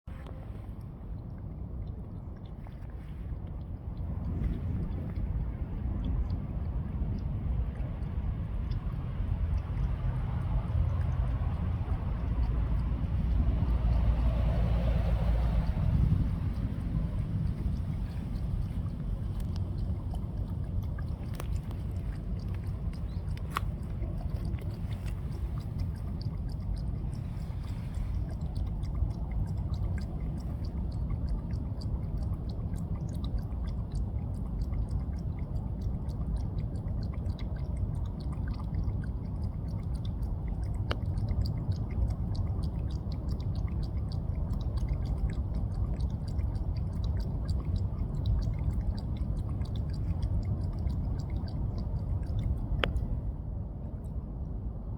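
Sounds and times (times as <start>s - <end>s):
cat lapping water: 0.1s - 54.9s
low rumble: 0.1s - 54.9s.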